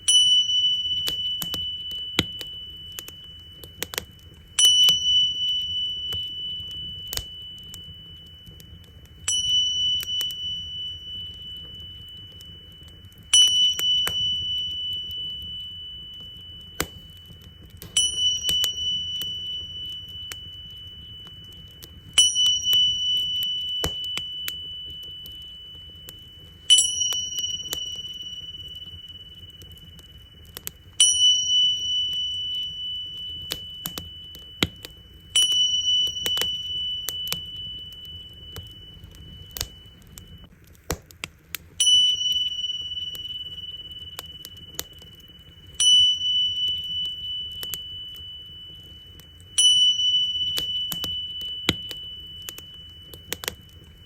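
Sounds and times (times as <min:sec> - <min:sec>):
small cymbals ringing: 0:00.0 - 0:40.6, 0:41.7 - 0:54.0
bonfire crackling and popping: 0:00.0 - 0:54.0.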